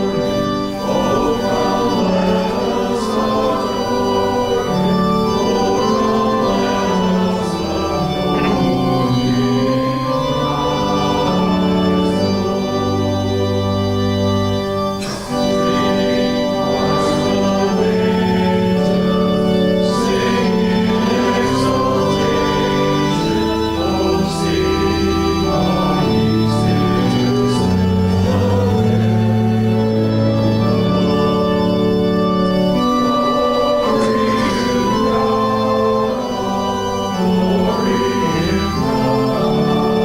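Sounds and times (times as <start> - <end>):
organ playing hymn chords: 0.0 - 40.0.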